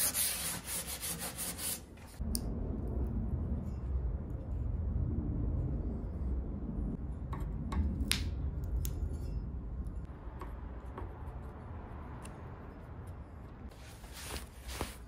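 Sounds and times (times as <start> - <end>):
low steady rumble: 2.2 - 15.0.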